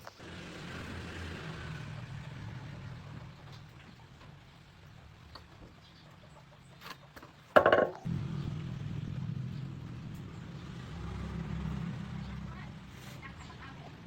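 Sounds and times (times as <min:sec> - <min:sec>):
low engine hum: 0:00.1 - 0:06.8, 0:08.0 - 0:14.0.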